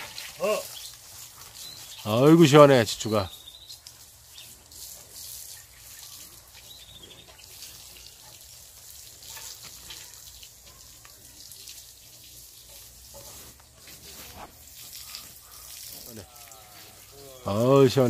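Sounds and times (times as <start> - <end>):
hose water spraying: 0.0 - 18.0.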